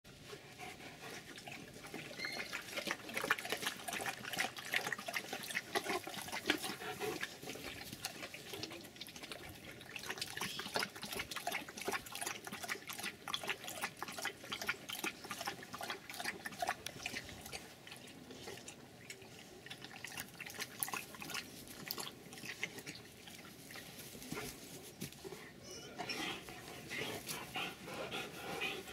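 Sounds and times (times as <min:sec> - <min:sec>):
dog lapping and splashing water: 0:01.0 - 0:24.6.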